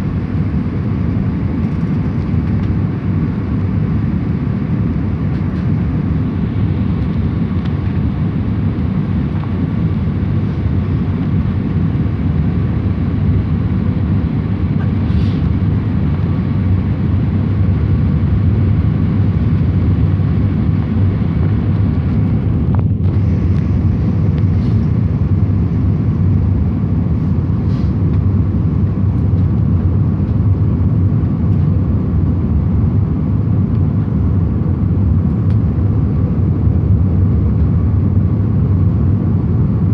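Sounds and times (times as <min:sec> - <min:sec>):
airliner engines rumbling: 0:00.0 - 0:39.9.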